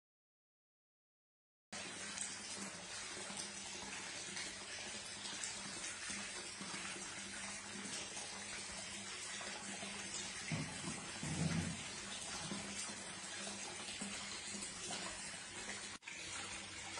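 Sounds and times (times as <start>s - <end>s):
water splashing into a pool: 1.8s - 16.9s.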